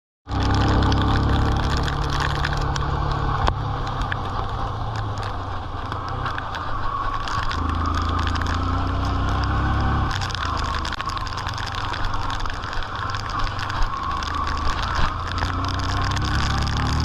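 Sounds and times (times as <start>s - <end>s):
motorcycle engine running: 0.3s - 17.0s
rain hiss: 0.3s - 17.0s
ticks of raindrops: 0.3s - 17.0s.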